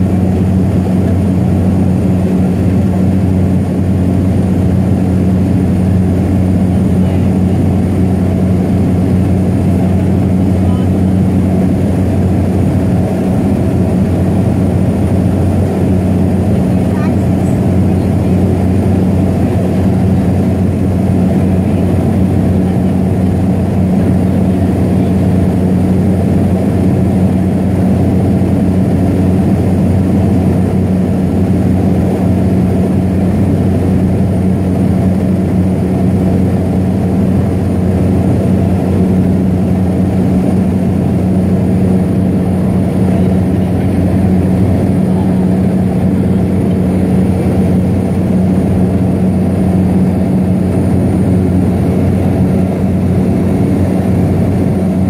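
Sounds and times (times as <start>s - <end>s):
plane engine and propeller hum: 0.0s - 55.0s.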